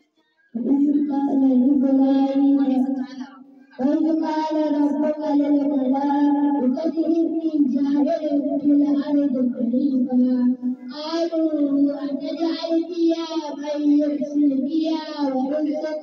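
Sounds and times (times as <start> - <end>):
boy chanting into a microphone: 0.5 - 16.0.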